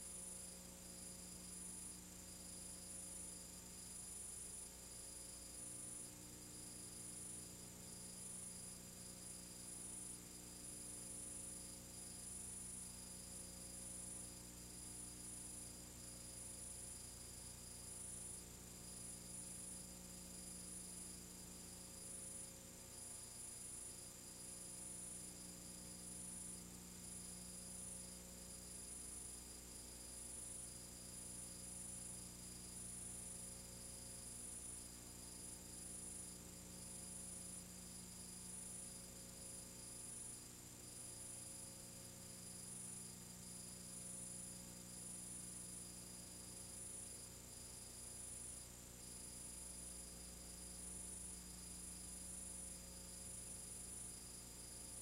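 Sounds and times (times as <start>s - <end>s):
faint electrical hum with hiss: 0.0s - 55.0s.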